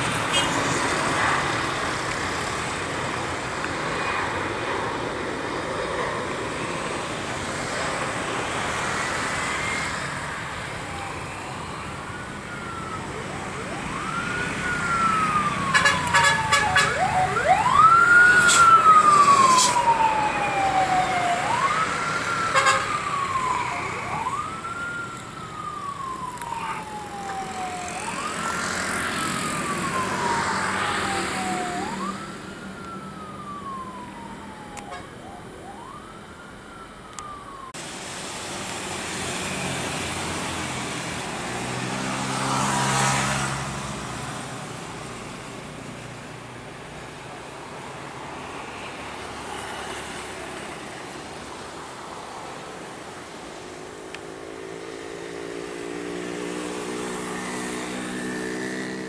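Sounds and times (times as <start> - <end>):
emergency vehicle siren wailing: 0.0 - 37.9, 48.4 - 59.0.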